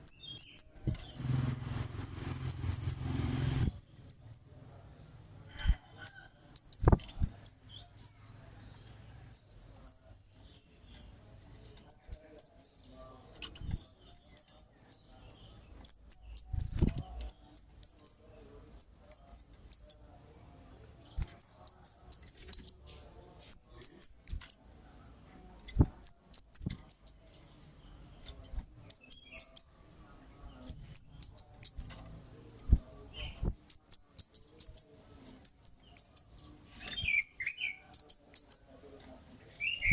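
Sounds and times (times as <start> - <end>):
songbird high chirps: 0.0 - 3.1, 3.7 - 4.6, 5.6 - 20.2, 21.1 - 29.9, 30.5 - 32.0, 33.2 - 38.8, 39.5 - 39.9.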